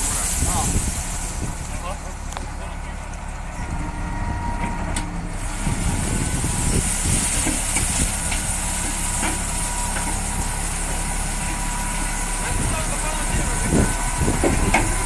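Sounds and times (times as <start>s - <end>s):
high-pressure water jets spraying: 0.0s - 2.7s, 5.4s - 15.0s
truck engine idling: 0.0s - 15.0s.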